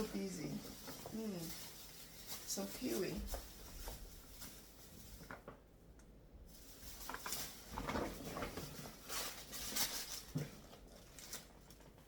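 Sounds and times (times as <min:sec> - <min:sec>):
rustling of grocery items: 0:00.0 - 0:12.0.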